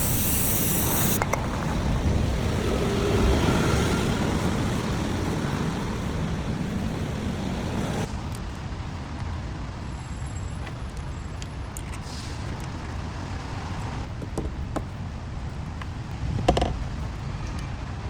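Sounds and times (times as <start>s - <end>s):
rumbling vehicle noise: 0.0s - 18.0s.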